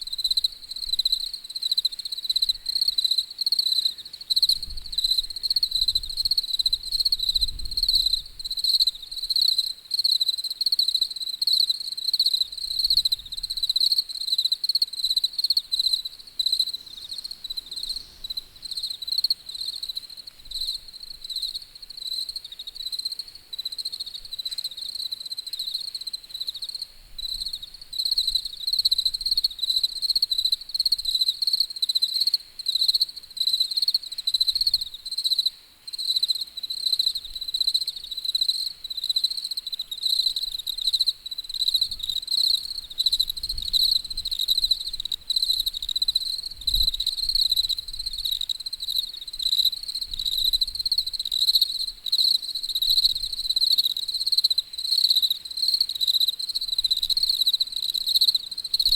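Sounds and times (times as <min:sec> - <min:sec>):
crickets chirping: 0:00.0 - 0:58.9.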